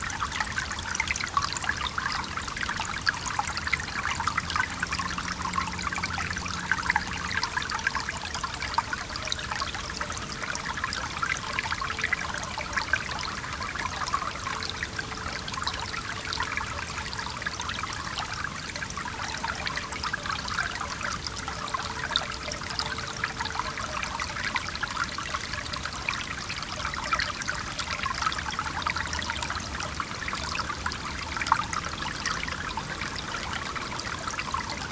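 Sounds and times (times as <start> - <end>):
stream water trickling: 0.0 - 34.9.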